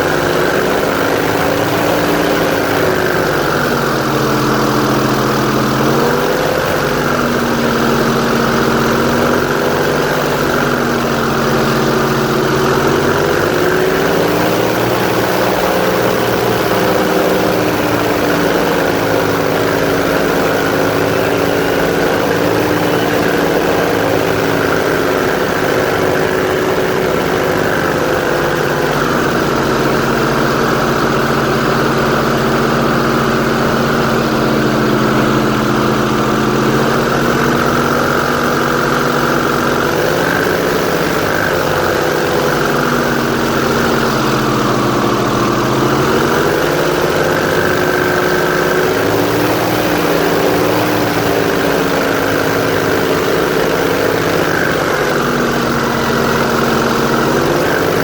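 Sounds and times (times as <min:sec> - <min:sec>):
airboat engine and propeller running: 0:00.0 - 0:58.0.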